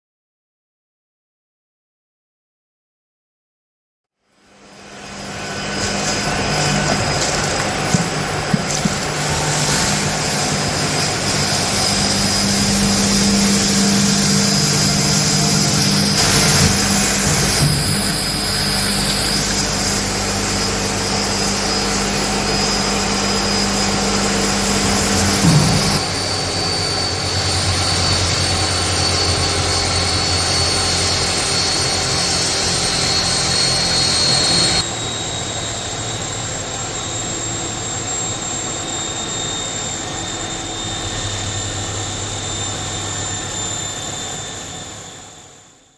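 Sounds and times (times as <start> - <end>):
mill whirring with high whine: 4.4 - 45.9.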